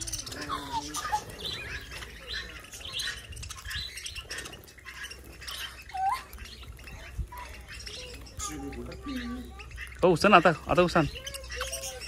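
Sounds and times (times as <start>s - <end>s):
parrots chirping and twittering: 0.0s - 12.0s.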